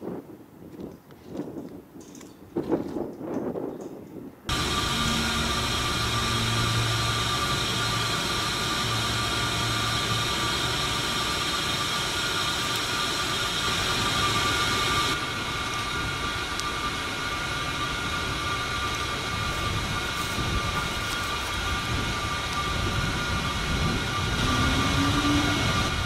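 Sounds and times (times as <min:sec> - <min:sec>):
aircraft turbine engine whine: 0:04.5 - 0:26.0
low hum: 0:04.5 - 0:26.0
steady high tones: 0:04.5 - 0:26.0.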